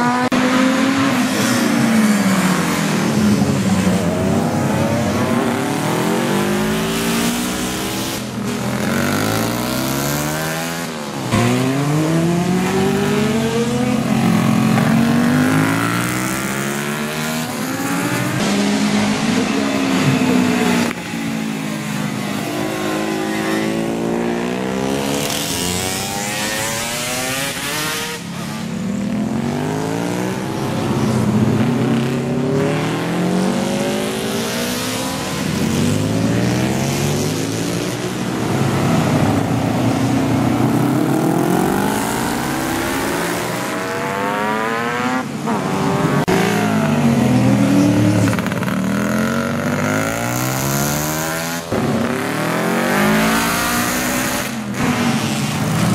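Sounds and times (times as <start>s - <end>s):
motorcycles passing revving: 0.0s - 55.9s.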